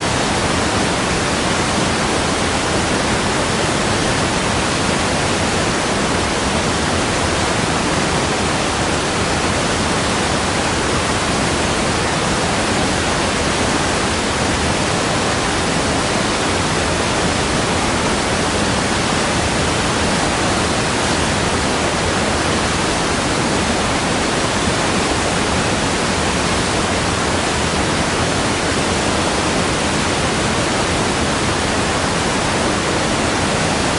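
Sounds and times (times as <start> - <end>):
waterfall rushing over rocks: 0.0 - 33.9.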